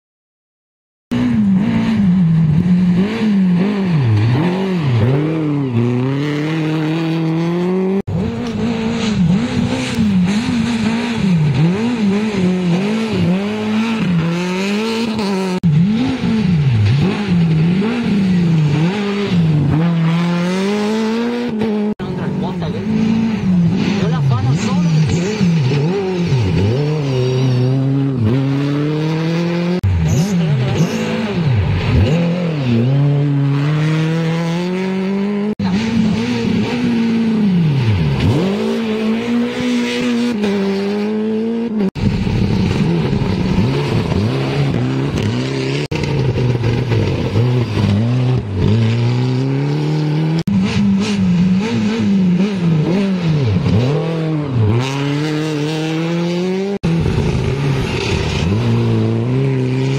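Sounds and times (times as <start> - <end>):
rally car engines revving past: 1.1 - 59.9.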